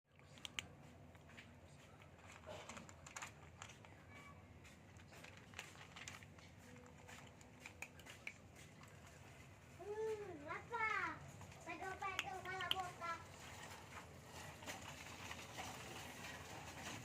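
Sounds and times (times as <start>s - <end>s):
faint clicks and taps: 0.1s - 15.4s.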